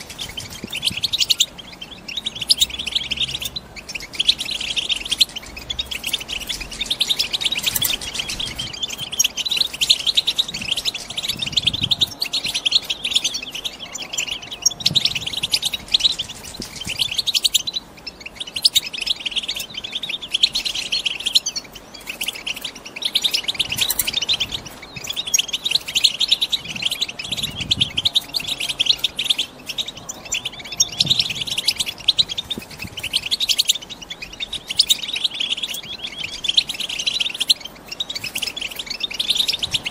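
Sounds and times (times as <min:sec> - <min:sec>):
finches twittering: 0:00.0 - 0:39.9.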